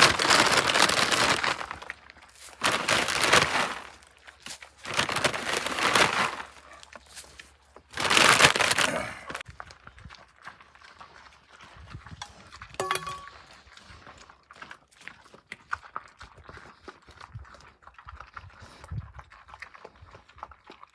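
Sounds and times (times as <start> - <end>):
pigs chewing and crunching: 0.0 - 20.9.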